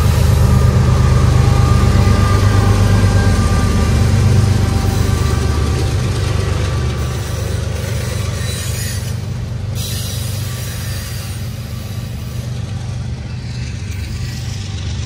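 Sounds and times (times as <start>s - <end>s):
freight cars rumbling on rails: 0.0s - 15.0s
locomotive working under load: 0.0s - 15.0s.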